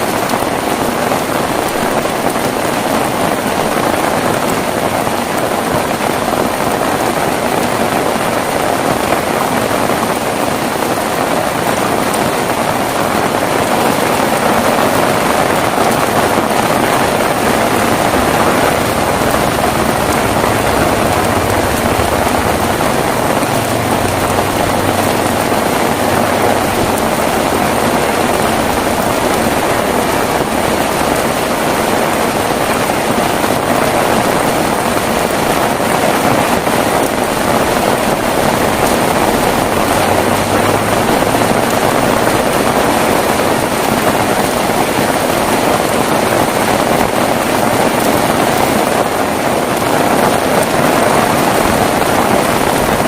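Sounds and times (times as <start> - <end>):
heavy rain hiss: 0.0 - 53.0.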